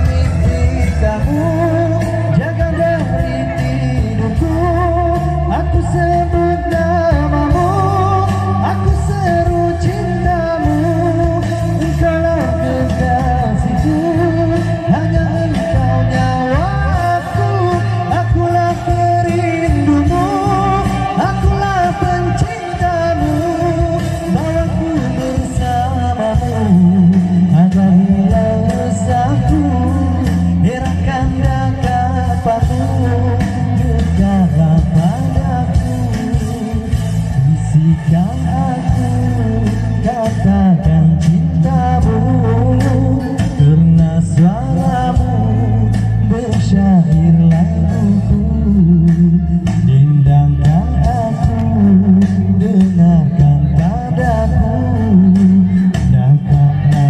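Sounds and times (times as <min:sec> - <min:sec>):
amplified music with bass line: 0:00.0 - 0:57.0
person singing pop song: 0:00.0 - 0:57.0.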